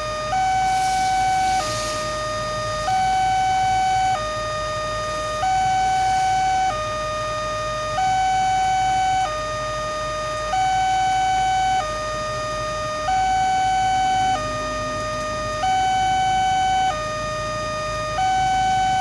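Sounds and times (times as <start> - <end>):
two-tone crossing alarm: 0.0 - 19.0.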